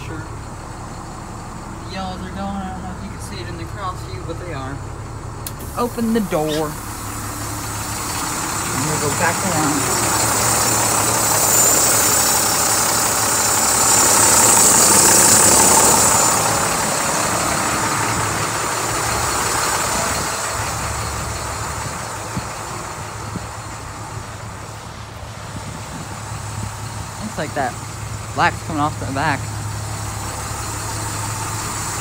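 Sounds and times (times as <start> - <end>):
bus diesel engine idling: 0.0 - 32.0.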